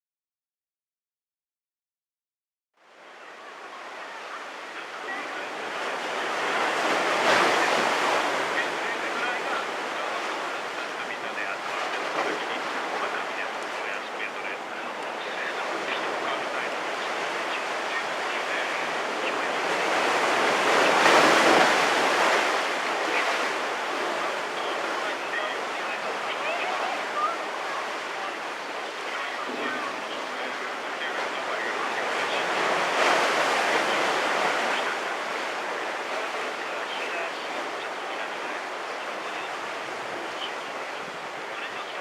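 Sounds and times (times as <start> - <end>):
sea waves washing ashore: 2.8 - 42.0.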